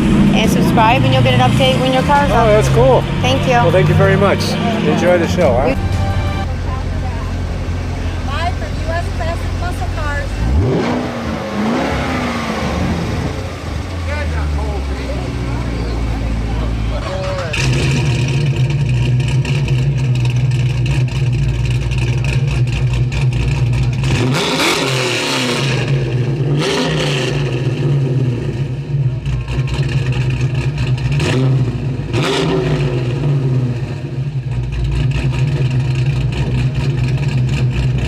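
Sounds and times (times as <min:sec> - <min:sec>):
car engine rumbling and revving: 0:00.0 - 0:38.0.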